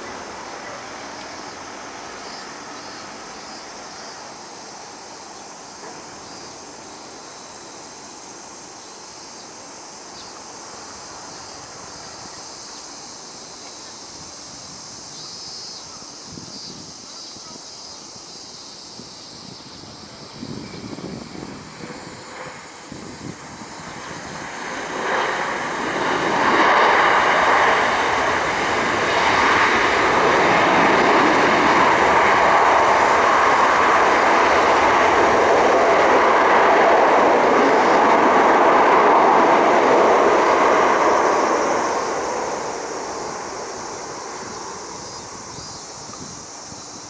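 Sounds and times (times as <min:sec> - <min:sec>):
jet engines in reverse thrust: 0:00.0 - 0:15.7, 0:18.6 - 0:47.0.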